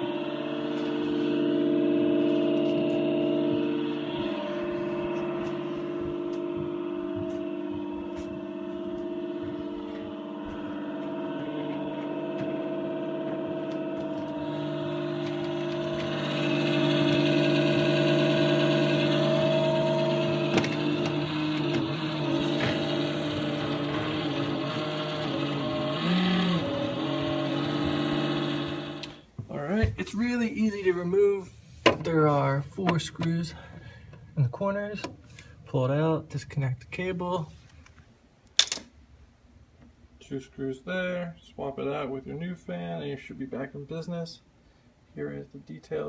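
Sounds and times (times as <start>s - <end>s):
cooling fan whining: 0.0s - 46.0s.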